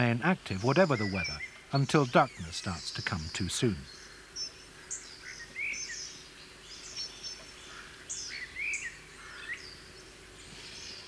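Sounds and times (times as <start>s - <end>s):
birds chirping and whistling: 0.0s - 11.0s
faint steady hiss: 0.0s - 11.0s.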